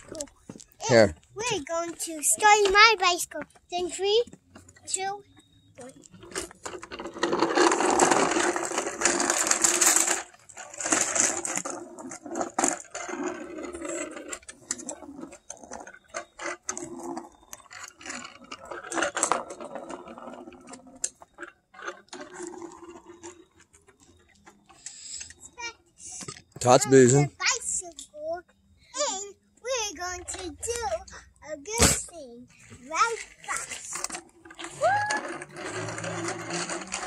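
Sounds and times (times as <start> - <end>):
small bike rattling over asphalt: 0.0 - 37.0.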